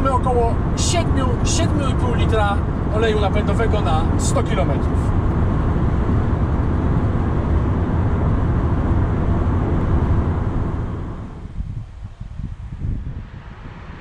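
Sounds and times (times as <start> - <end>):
engine drone: 0.0 - 12.0
air rushing over vehicle body: 0.4 - 14.0.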